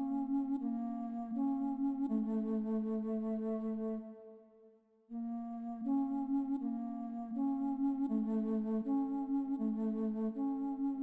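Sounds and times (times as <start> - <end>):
soft woodwind melody: 0.0 - 11.0.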